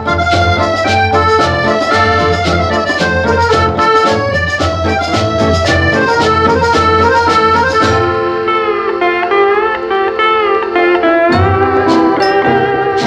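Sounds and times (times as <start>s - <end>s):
accordion-like reedy melody: 0.0s - 13.0s
steady beat: 0.0s - 13.0s.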